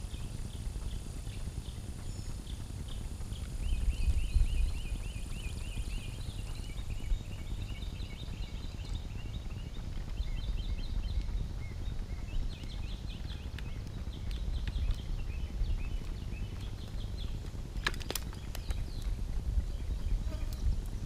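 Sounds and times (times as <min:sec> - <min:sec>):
small birds chirping: 0:00.0 - 0:21.0
wind rumble on microphone: 0:00.0 - 0:21.0.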